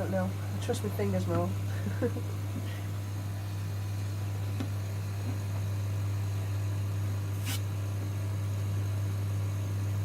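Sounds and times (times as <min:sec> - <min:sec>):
extraction fan humming: 0:00.0 - 0:10.0.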